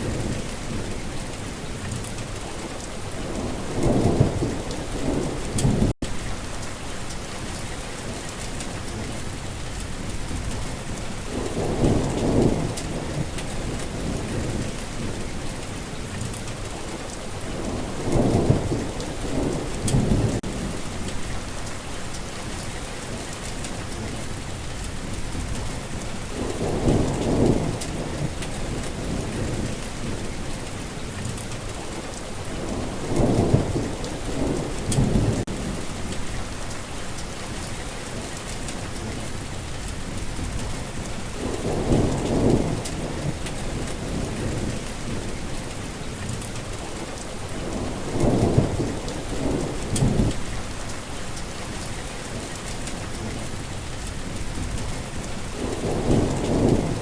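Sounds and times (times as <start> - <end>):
heavy rain falling: 0.0 - 57.0
thunder rumbling: 0.0 - 57.0.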